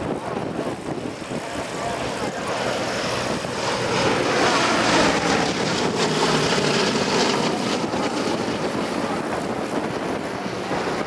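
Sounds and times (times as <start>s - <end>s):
propeller plane engines droning: 0.0s - 11.0s
wind on microphone: 0.0s - 11.0s.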